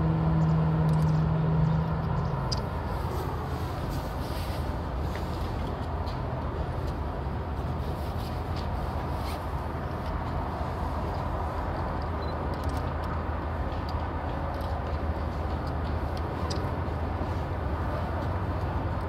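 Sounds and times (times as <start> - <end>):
expressway traffic rumble: 0.0 - 19.0.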